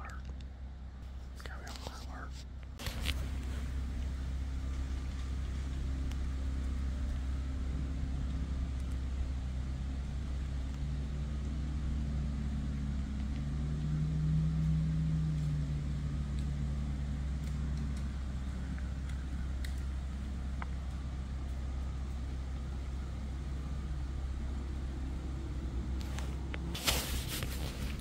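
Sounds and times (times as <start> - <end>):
distant engine drone: 0.0 - 28.0
steady low rumble: 0.0 - 28.0.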